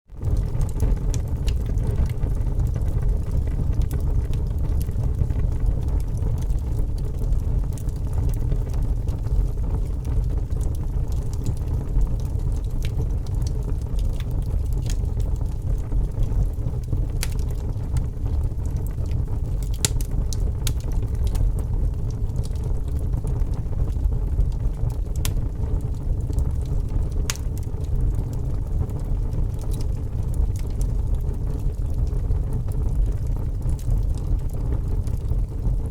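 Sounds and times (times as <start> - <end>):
fire crackling and popping: 0.1 - 35.9
fire roaring: 0.1 - 35.9.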